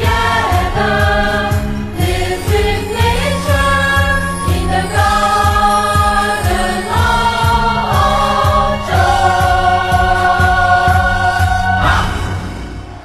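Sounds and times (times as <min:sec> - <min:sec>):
backing music with steady beat: 0:00.0 - 0:13.0
group of voices singing: 0:00.0 - 0:13.0.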